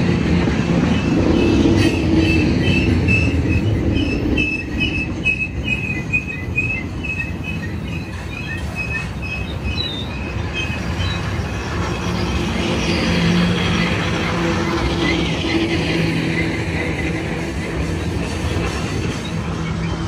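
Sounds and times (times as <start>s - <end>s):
freight train rumbling past: 0.0s - 20.0s
high-pitched wheel squeals: 0.8s - 20.0s.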